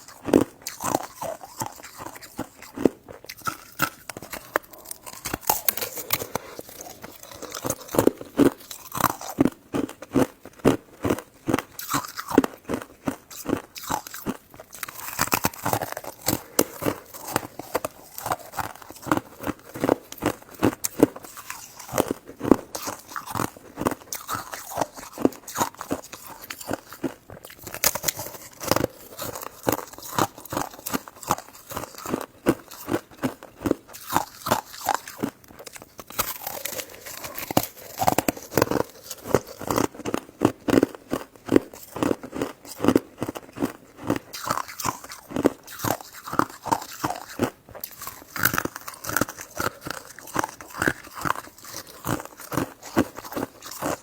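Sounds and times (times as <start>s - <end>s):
chewing soft chewy food: 0.0s - 54.0s.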